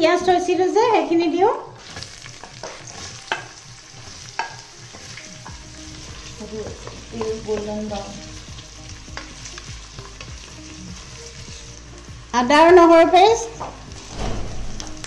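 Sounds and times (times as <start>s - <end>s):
onions sizzling in hot oil: 1.8s - 15.0s.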